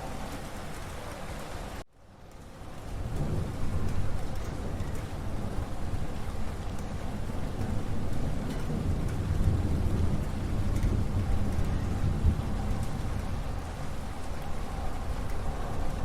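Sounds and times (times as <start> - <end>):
steady rain falling: 0.0 - 16.0
low rumble of thunder: 2.6 - 16.0.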